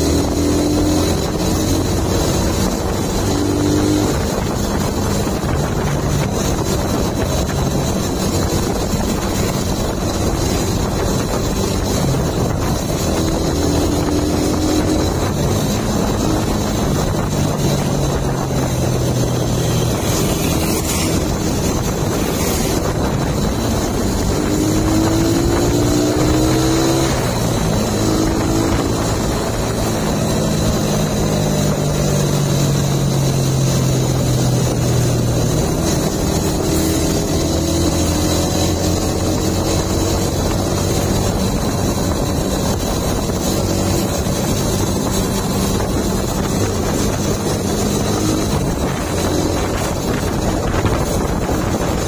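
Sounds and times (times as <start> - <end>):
motorcycle engine revving: 0.0 - 52.0
wind rush on microphone: 0.0 - 52.0.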